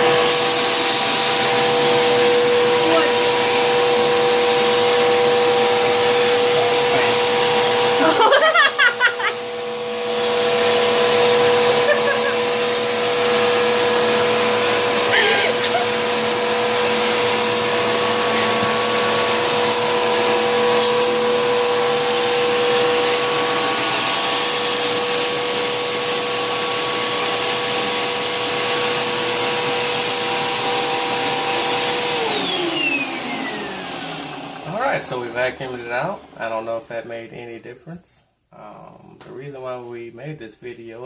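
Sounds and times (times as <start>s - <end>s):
vacuum motor winding down: 0.0s - 36.8s
vacuum cleaner running: 0.0s - 37.6s.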